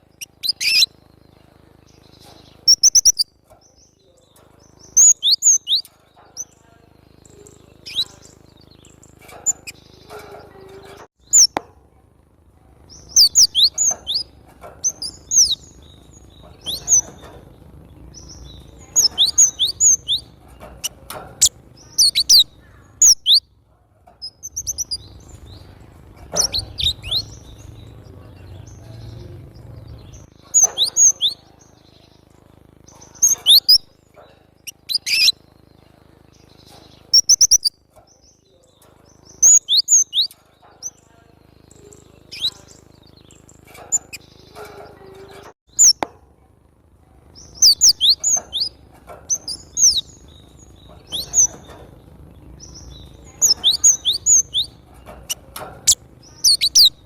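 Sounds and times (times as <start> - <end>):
bird chirping: 0.0 - 11.7, 12.7 - 46.2, 47.2 - 57.0.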